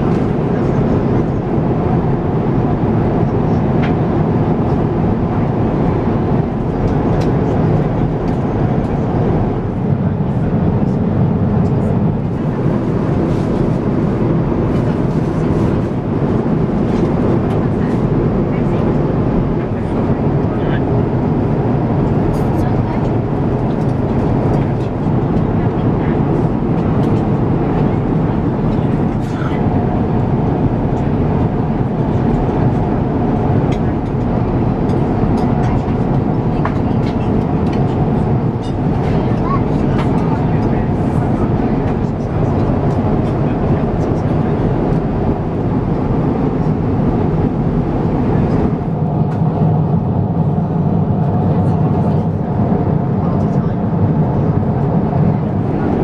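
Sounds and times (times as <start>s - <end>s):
airliner cabin roar: 0.0s - 56.0s.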